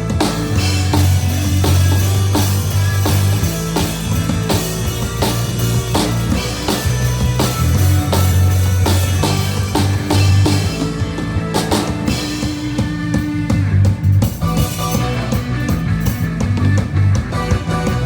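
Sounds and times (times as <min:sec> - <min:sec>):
drum kit hits: 0:00.0 - 0:16.6
bass guitar notes: 0:00.0 - 0:18.0
electric guitar: 0:00.0 - 0:18.0.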